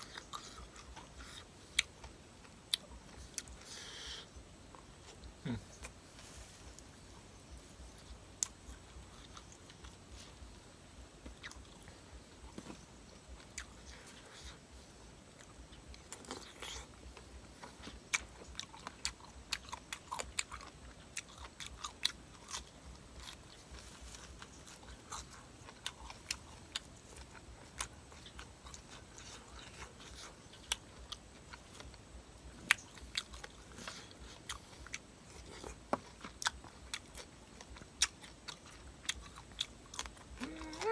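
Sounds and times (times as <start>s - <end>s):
person chewing and crunching: 0.0s - 40.9s.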